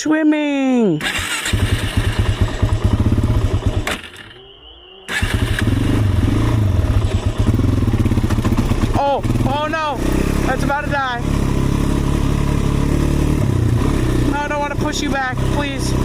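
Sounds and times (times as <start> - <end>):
small engine revving unevenly: 1.0 - 16.0.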